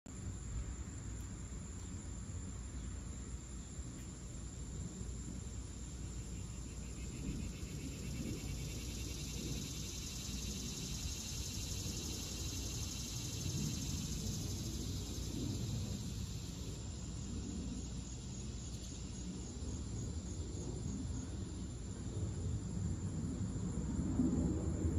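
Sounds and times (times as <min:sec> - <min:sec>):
cicadas buzzing: 0:00.2 - 0:24.9
steady low rumble: 0:04.2 - 0:24.9.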